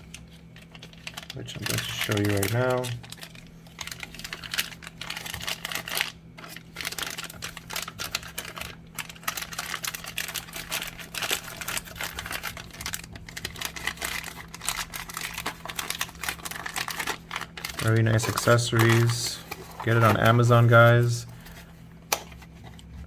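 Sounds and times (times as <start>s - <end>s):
low electrical hum: 0.0s - 23.0s
plastic and cardboard rustling: 0.0s - 23.0s.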